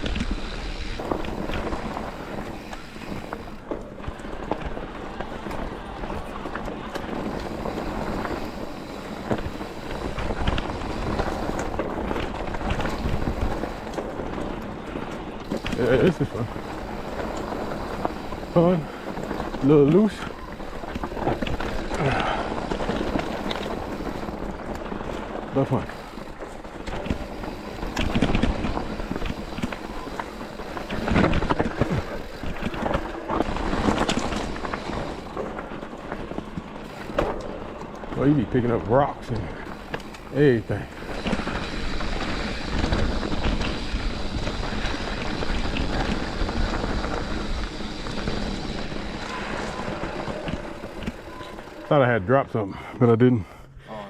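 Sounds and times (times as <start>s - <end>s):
bike knocking and rattling: 0.0s - 52.1s
tyres crunching over stones: 0.0s - 52.3s.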